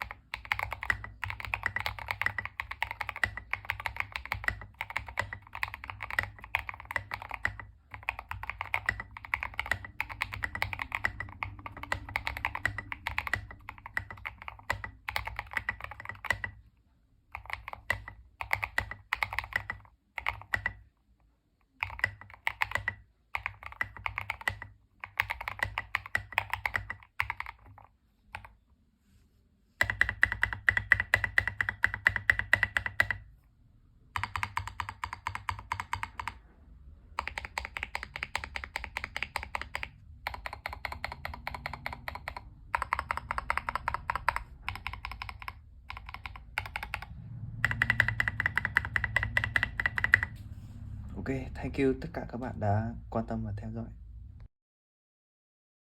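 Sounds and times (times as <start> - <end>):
mechanical keyboard typing: 0.0 - 16.7, 17.3 - 20.9, 21.6 - 28.6, 29.8 - 33.3, 34.0 - 50.5.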